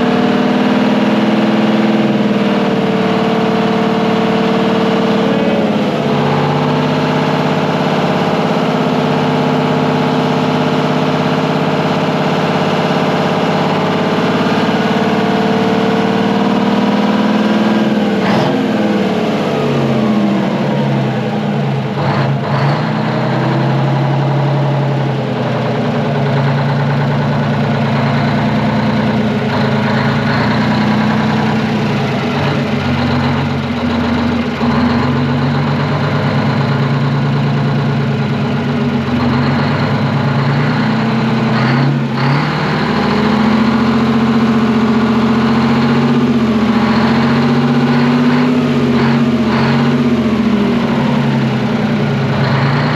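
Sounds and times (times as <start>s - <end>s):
diesel engine running loud: 0.0s - 52.9s.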